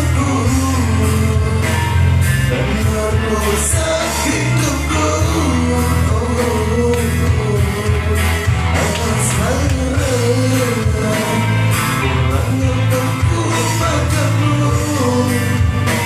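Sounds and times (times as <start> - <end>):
pop song with vocals: 0.0 - 16.0.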